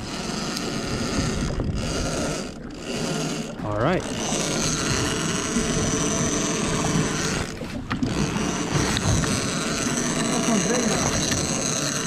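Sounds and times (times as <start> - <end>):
fishing reel gears whirring and clicking: 0.0 - 12.0.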